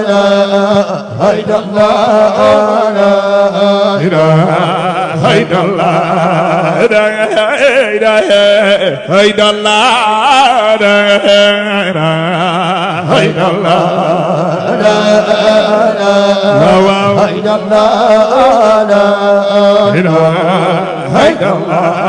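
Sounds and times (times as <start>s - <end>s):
man chanting through loudspeakers: 0.0s - 22.0s.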